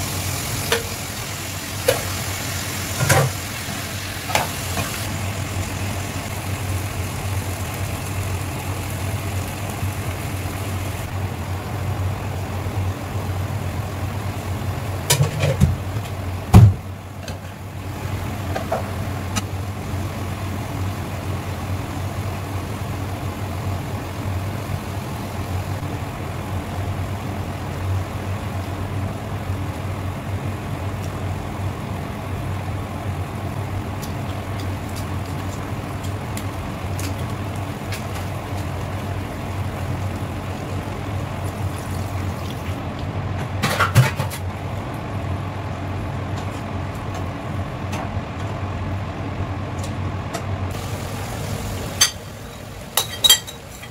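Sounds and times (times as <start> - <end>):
food sizzling in a pan: 0.0 - 42.8, 50.7 - 53.9.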